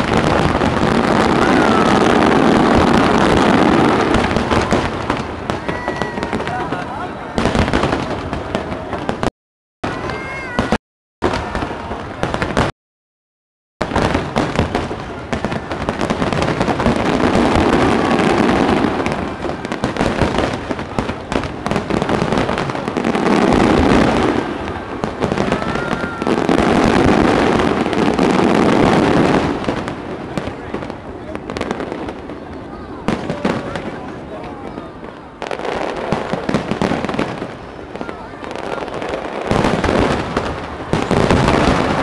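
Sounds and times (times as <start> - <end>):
fireworks bursting and crackling: 0.0 - 12.8, 13.8 - 42.0.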